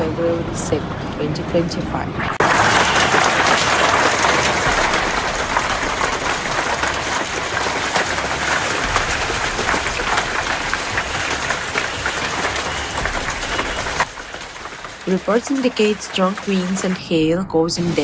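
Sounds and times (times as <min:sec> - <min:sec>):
heavy rain and hail pelting: 0:02.4 - 0:17.4.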